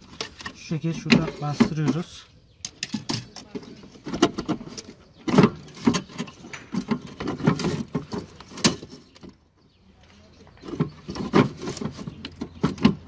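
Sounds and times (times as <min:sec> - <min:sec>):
clicks knocks and rattles of car parts: 0:00.0 - 0:09.5, 0:10.4 - 0:13.0.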